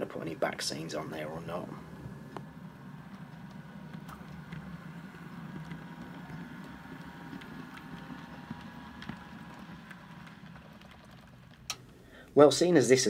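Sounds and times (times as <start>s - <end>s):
wheels clicking on track: 0.1s - 11.9s.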